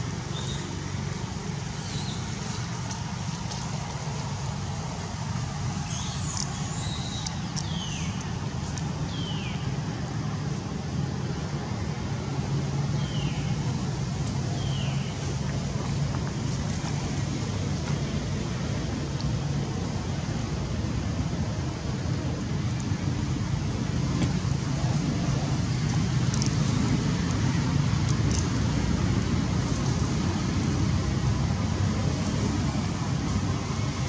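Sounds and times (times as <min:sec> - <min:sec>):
vehicle engine rumble: 0:00.0 - 0:34.0.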